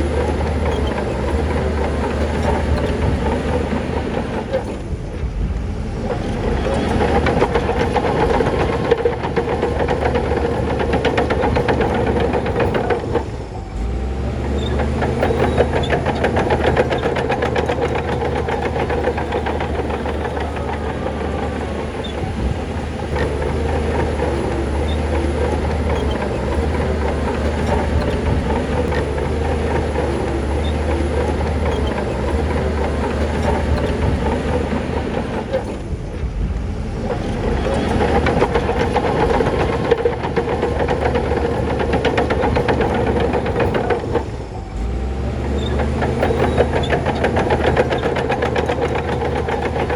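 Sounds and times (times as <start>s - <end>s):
diesel engine low note: 0.0s - 49.9s
metallic clatter: 0.0s - 49.9s.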